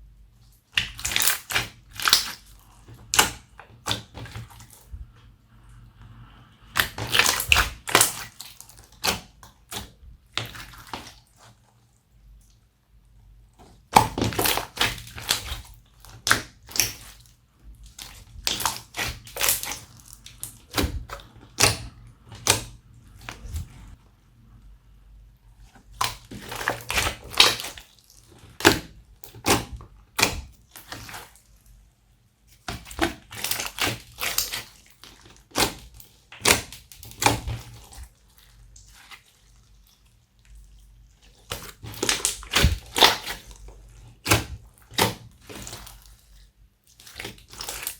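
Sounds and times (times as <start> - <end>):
slime squishing by hand: 0.0 - 47.9.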